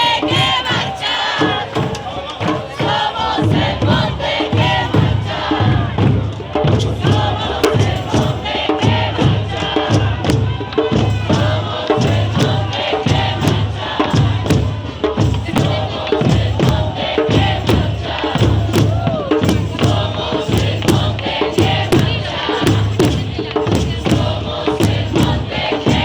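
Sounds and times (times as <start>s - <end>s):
crowd chanting: 0.0s - 26.0s
steady drum beat: 0.0s - 26.0s.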